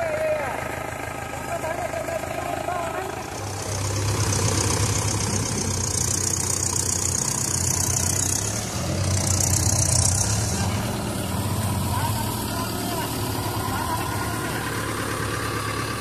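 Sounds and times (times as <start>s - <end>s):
tractor diesel engine running hard: 0.0s - 16.0s.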